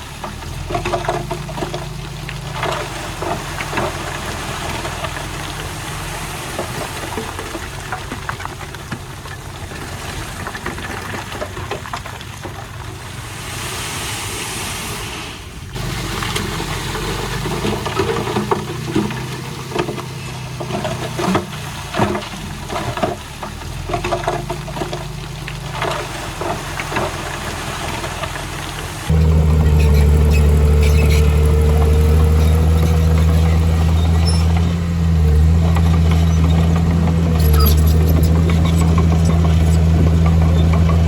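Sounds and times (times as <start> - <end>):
heavy machinery diesel engine: 0.0 - 11.9, 15.4 - 41.0
soil and stones knocking: 0.1 - 12.9, 15.8 - 41.0.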